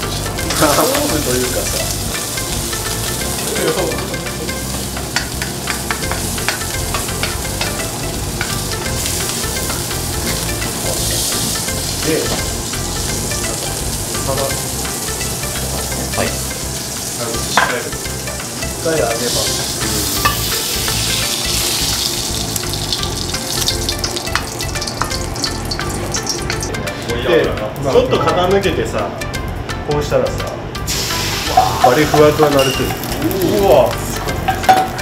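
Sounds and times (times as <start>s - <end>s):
meat sizzling in a wok: 0.0s - 27.2s, 30.8s - 35.0s.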